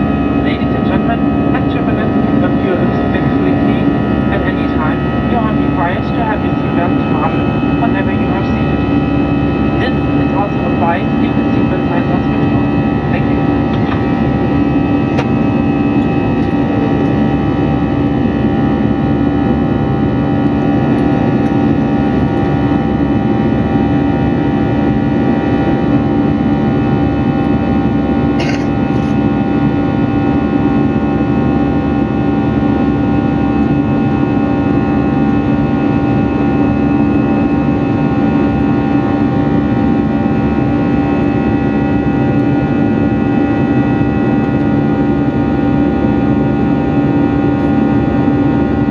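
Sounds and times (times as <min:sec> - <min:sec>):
jet engines heard in cabin: 0:00.0 - 0:48.9.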